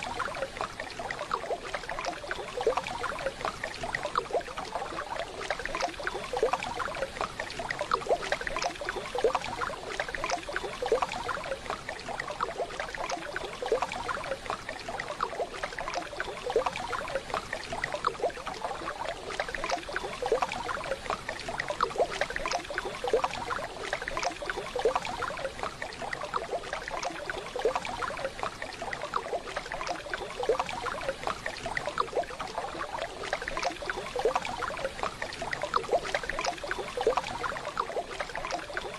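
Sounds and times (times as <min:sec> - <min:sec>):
small water splashes: 0:00.0 - 0:38.9.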